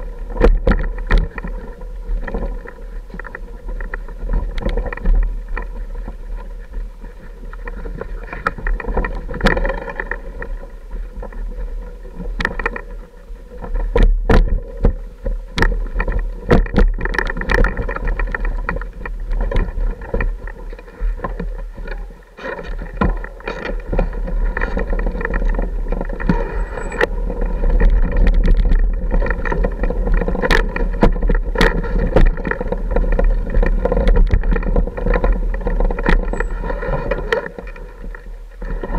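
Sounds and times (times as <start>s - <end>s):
knocks and clatter over rocks: 0.0s - 38.9s.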